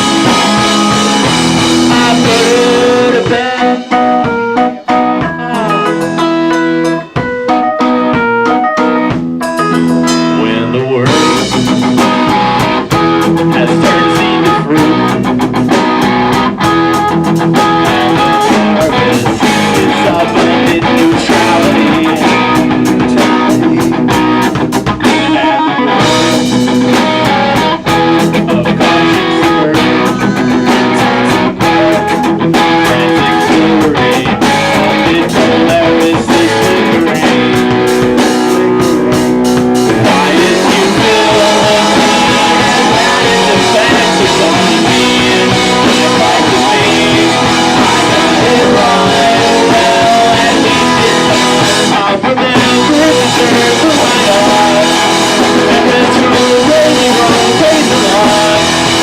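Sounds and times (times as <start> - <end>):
steady drumming: 0.0 - 8.4, 9.1 - 59.0
loud guitars: 0.0 - 59.0
rock band playing live: 0.0 - 59.0.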